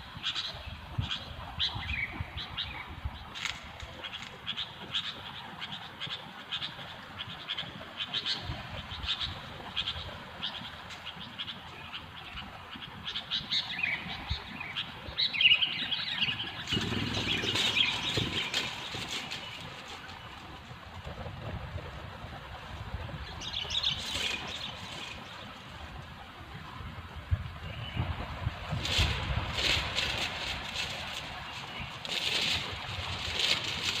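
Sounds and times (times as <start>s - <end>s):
birds chirping: 0.0s - 20.6s, 23.2s - 26.4s, 28.8s - 34.0s.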